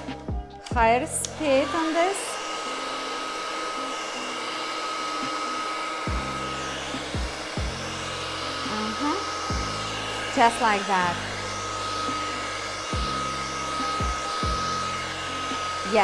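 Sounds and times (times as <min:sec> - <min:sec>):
hair dryer blowing: 0:00.0 - 0:16.0
thin steady whine: 0:01.0 - 0:16.0.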